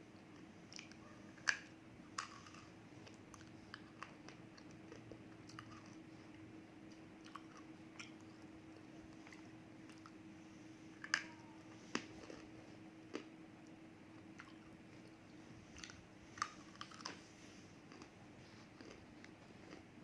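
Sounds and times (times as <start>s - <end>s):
faint steady hum: 0.0s - 20.0s
crunchy food chewing: 0.2s - 10.2s, 10.9s - 20.0s.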